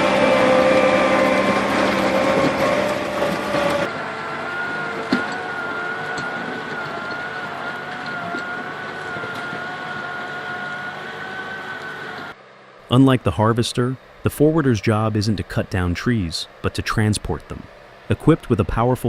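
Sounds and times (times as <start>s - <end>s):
high hydraulic whine: 0.0s - 19.0s
machine engine drone: 0.0s - 19.0s.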